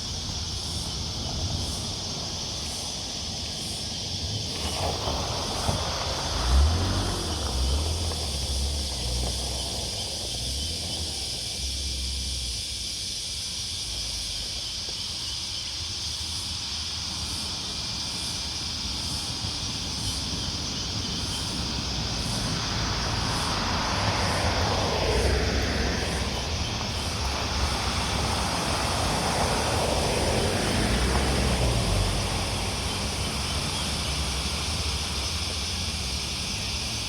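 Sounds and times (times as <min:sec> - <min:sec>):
engine: 0:00.0 - 0:37.0
insect drone: 0:00.0 - 0:37.0
vehicle rumble: 0:00.0 - 0:37.0.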